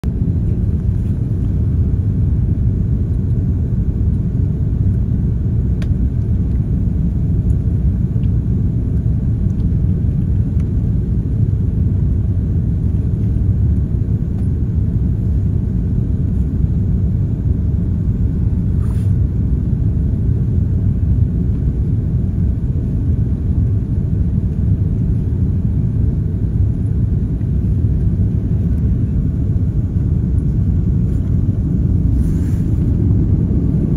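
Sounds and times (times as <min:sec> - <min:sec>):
airliner cabin engine rumble: 0:00.0 - 0:33.9.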